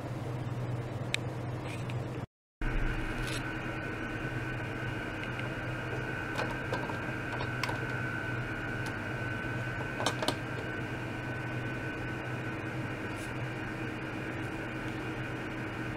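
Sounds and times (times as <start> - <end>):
high whine: 2.6 - 15.9
ultrasonic cleaner humming: 2.6 - 15.9.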